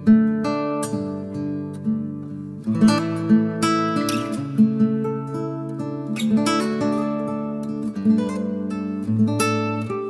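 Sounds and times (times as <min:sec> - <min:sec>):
acoustic guitar plucked and strummed: 0:00.0 - 0:10.0.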